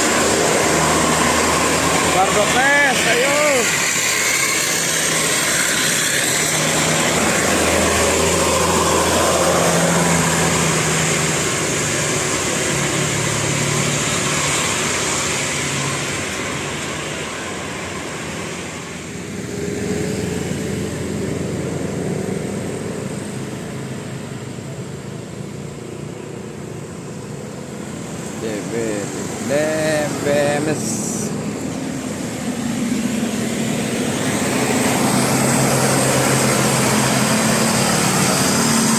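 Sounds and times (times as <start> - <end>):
road vehicles passing: 0.0 - 38.9.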